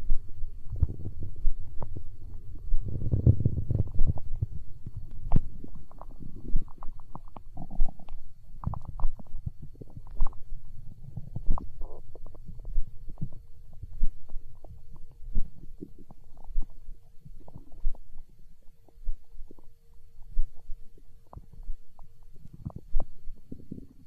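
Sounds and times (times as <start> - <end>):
faint steady tone: 0.0 - 24.0
stomach growling: 0.0 - 24.0.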